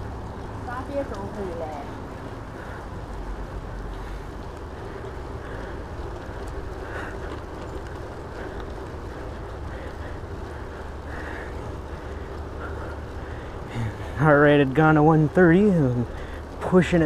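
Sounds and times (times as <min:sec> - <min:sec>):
tyres rolling on pavement: 0:00.0 - 0:17.0.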